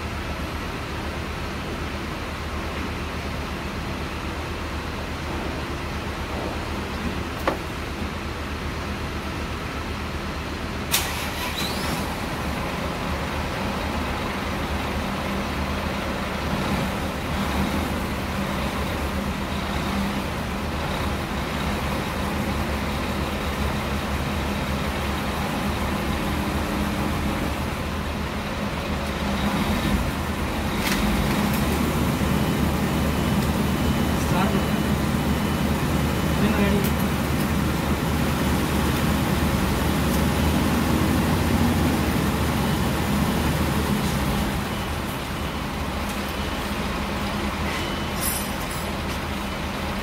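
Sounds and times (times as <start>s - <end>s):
traffic rumble: 0.0s - 50.0s.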